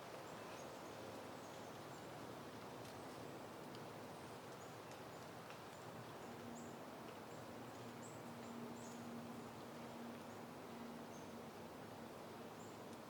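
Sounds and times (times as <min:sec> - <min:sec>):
wind rushing through foliage: 0:00.0 - 0:13.0.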